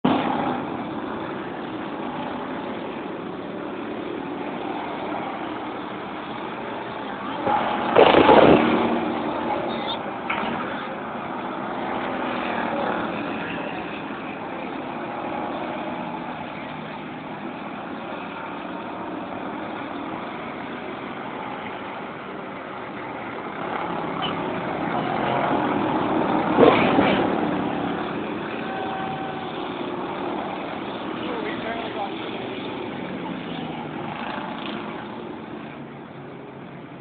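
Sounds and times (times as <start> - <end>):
race car engines: 0.0 - 37.0.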